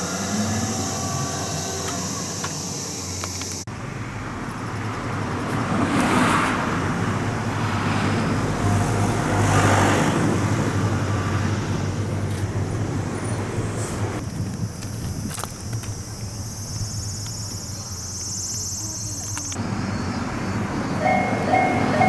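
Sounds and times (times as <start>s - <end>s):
vehicles passing by: 0.0s - 22.0s.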